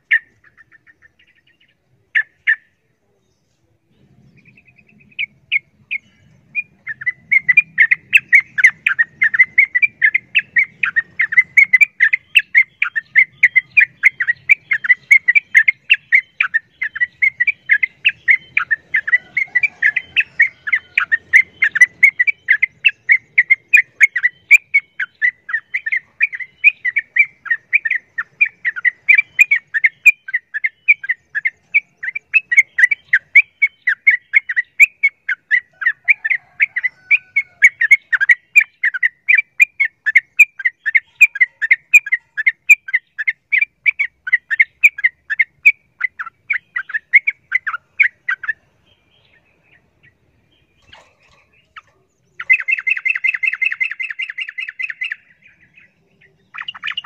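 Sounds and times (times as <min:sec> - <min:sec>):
bird chattering: 0:00.0 - 0:02.9, 0:04.0 - 0:57.0.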